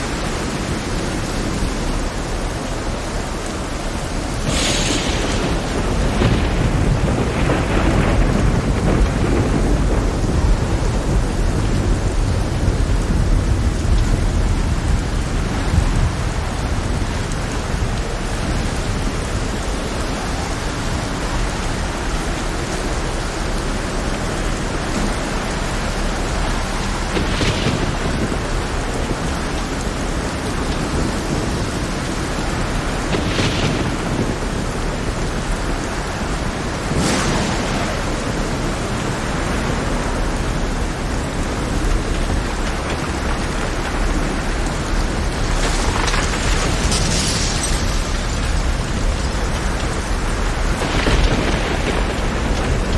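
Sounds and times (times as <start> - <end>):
deep rumbling thunder: 0.0 - 52.9
heavy rain: 0.0 - 52.9.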